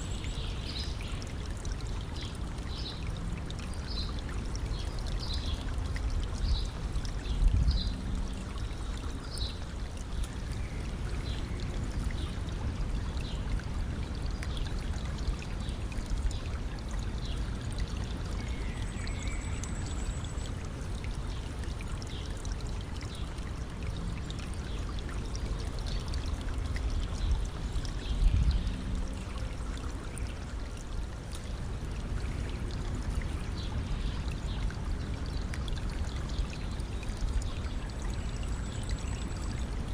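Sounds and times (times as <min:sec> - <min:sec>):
low water gurgling surge: 0:00.0 - 0:39.9
stream trickling over stones: 0:00.0 - 0:39.9.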